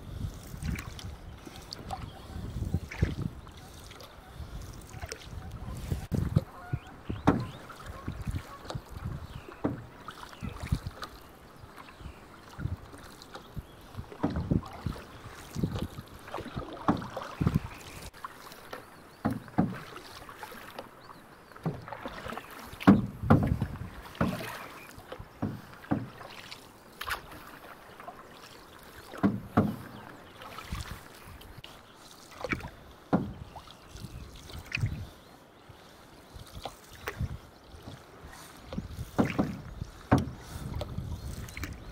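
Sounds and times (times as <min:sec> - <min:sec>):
low wash of water: 0:00.0 - 0:41.9
paddles splashing in water: 0:00.0 - 0:41.9
paddle knocking against canoe: 0:00.4 - 0:35.1, 0:36.5 - 0:41.9.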